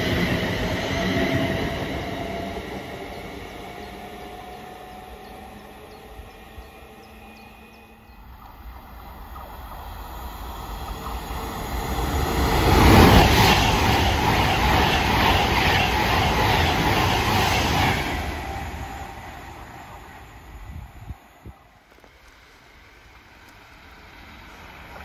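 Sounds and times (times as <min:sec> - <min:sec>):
train rushing past: 0:00.0 - 0:25.0.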